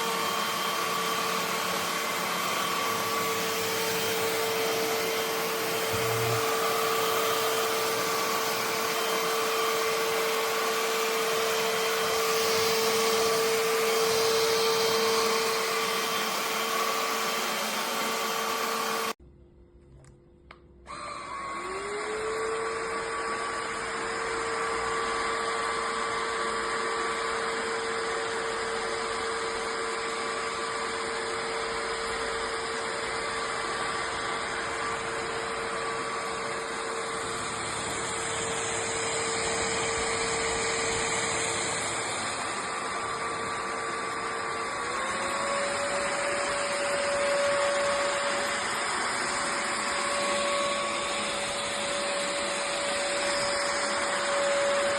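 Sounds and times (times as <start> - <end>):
vacuum motor whine: 0.0 - 19.2, 19.9 - 54.9.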